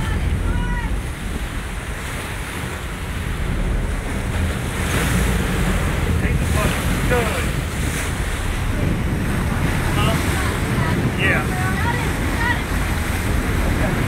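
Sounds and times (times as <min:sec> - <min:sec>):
boat engines rumbling: 0:00.0 - 0:14.0
wake water rushing: 0:00.0 - 0:14.0
wind buffeting microphone: 0:00.0 - 0:14.0.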